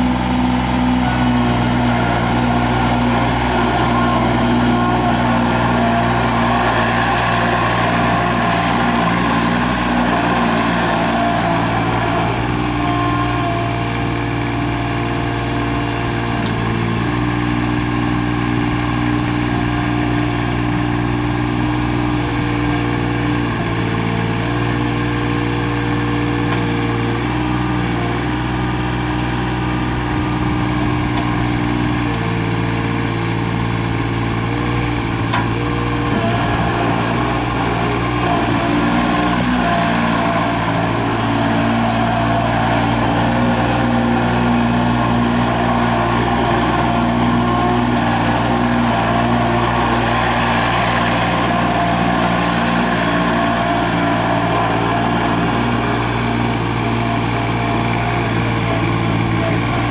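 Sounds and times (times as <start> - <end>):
hydraulic whine: 0.0 - 59.9
loader engine running: 0.0 - 59.9.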